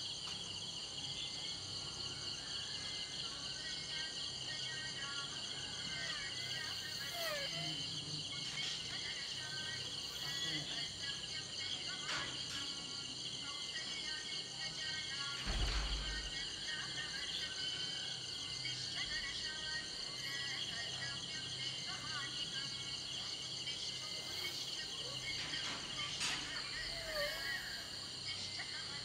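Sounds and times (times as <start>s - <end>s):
crickets and insects trilling: 0.0s - 29.0s.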